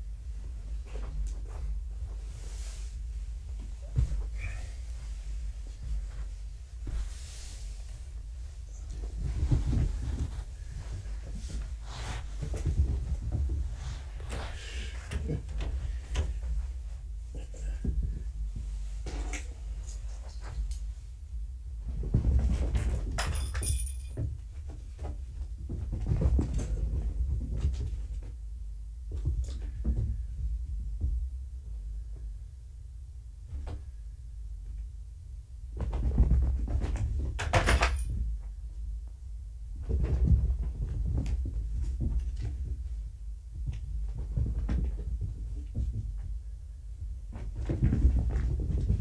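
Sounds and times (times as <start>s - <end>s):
kittens thumping and scuffling: 0.2s - 32.4s, 33.4s - 34.0s, 35.6s - 49.0s.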